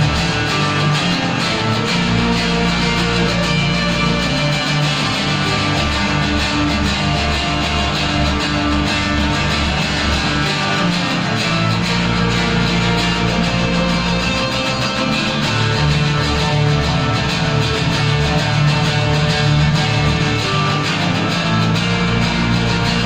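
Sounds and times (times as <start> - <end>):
instrumental band music with guitars: 0.0 - 23.0.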